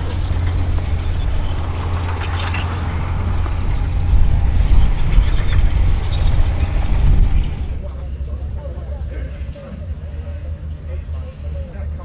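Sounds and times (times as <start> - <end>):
vehicle engine rumbling: 0.0 - 11.3.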